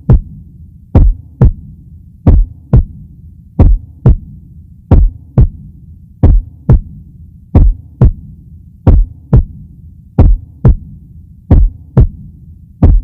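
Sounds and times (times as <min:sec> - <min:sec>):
heartbeat double thumps: 0:00.0 - 0:13.0
low steady hum: 0:00.0 - 0:13.0.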